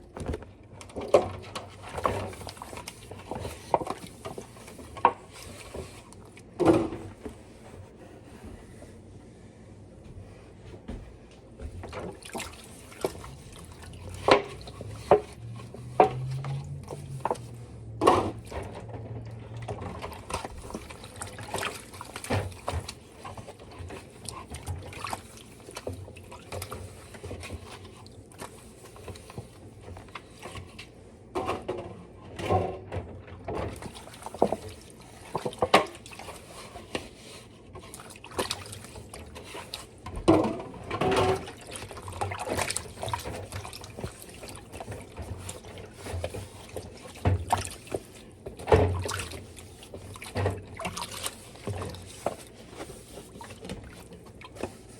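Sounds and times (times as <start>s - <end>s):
water running in a sink: 0.9s - 6.8s, 11.6s - 30.9s, 32.5s - 54.9s.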